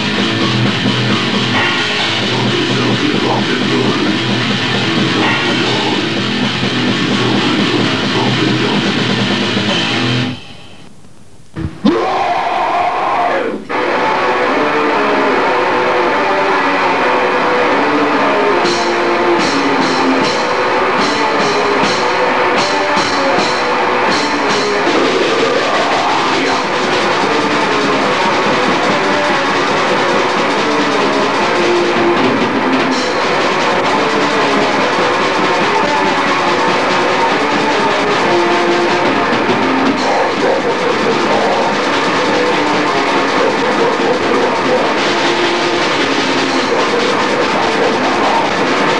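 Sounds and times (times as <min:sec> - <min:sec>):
drum kit: 0:00.0 - 0:10.9, 0:11.6 - 0:48.9
distorted guitars: 0:00.0 - 0:48.9.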